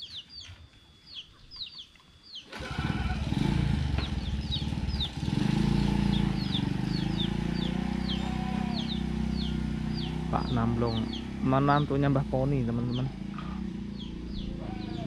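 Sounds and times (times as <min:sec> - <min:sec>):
small bird chirping: 0:00.0 - 0:02.6, 0:03.3 - 0:15.0
motorcycle engine running: 0:02.5 - 0:15.0.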